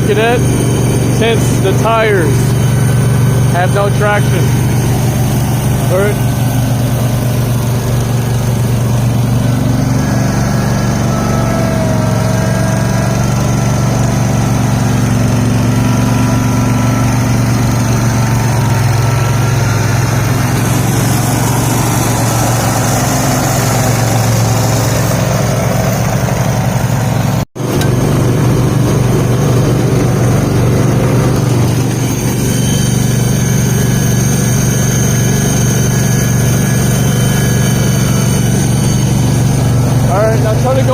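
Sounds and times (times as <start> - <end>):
garden tractor engines running: 0.0 - 40.9.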